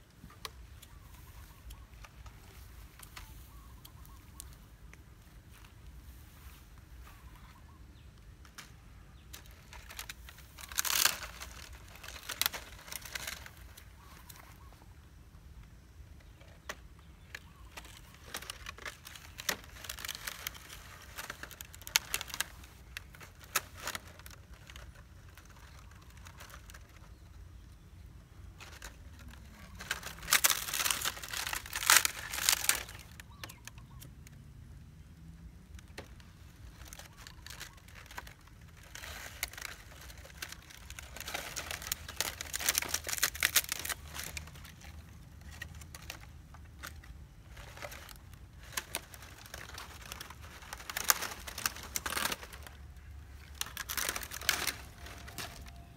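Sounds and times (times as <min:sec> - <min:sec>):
dry palm fronds crackling: 0:00.0 - 0:14.9, 0:15.6 - 0:55.9.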